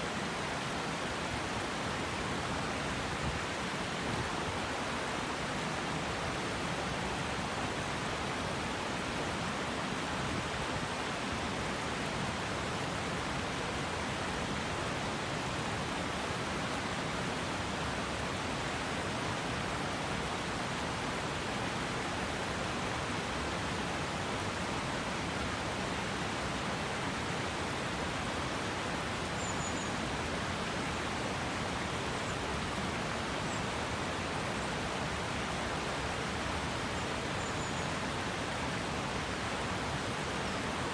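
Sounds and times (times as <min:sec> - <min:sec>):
mountain river flowing: 0:00.0 - 0:40.9.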